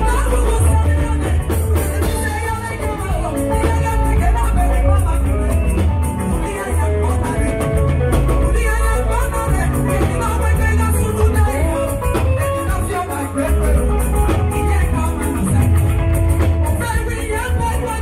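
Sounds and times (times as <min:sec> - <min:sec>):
heavy pulsing bass line: 0:00.0 - 0:18.0
live band playing: 0:00.0 - 0:18.0
woman singing into microphone: 0:00.0 - 0:18.0.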